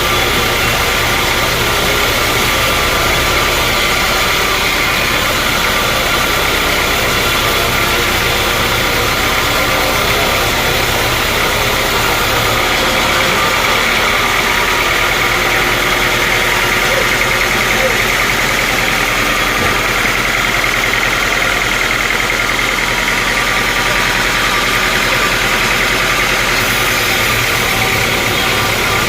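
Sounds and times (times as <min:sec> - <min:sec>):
low machine rumble: 0:00.0 - 0:29.0
sawmill machinery drone: 0:00.0 - 0:29.0
steady high tones: 0:00.0 - 0:29.0.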